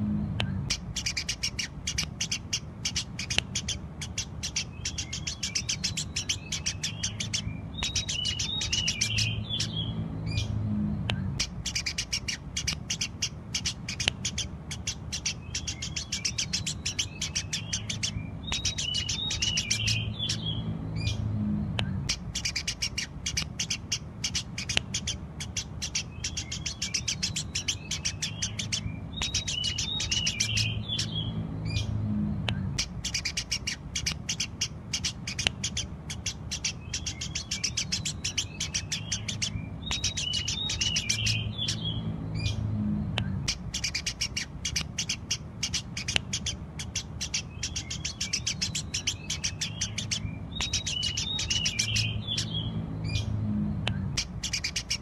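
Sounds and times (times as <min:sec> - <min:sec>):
sparrows chirping: 0:00.0 - 0:55.0
steady low hum: 0:00.0 - 0:55.0.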